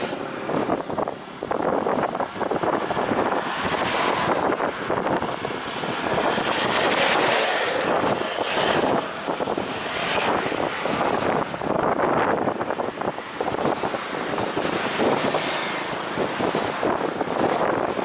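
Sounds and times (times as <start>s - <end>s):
jet airliner engines rushing: 0.0s - 18.0s
wind buffeting microphone: 0.0s - 18.0s.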